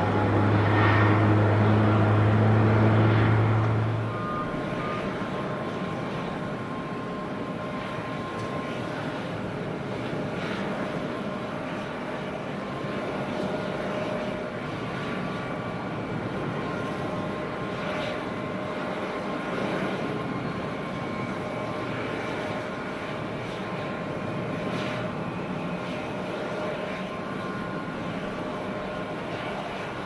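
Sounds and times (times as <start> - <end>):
jet engine whining tones: 0.0 - 30.0
jet engines rushing hum: 0.0 - 30.0.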